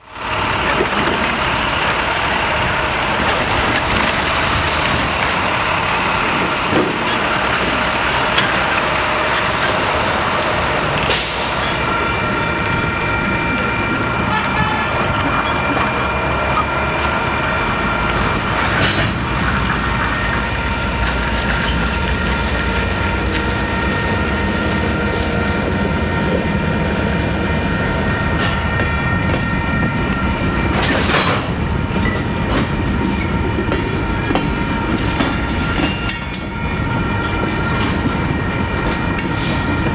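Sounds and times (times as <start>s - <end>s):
freight train rolling on track: 0.0s - 39.9s.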